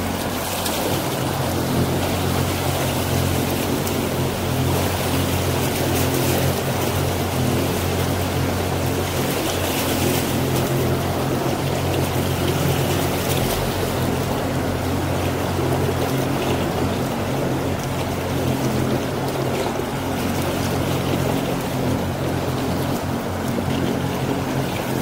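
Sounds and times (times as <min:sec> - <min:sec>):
motorboat engine running: 0:00.0 - 0:25.0
water rushing along hull: 0:00.0 - 0:25.0.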